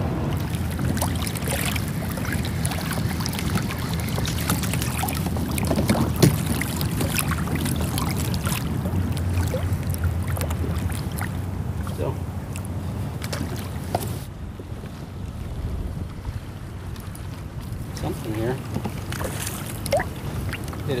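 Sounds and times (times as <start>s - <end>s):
low steady rumble: 0.0s - 21.0s
water lapping against kayak hull: 0.0s - 21.0s.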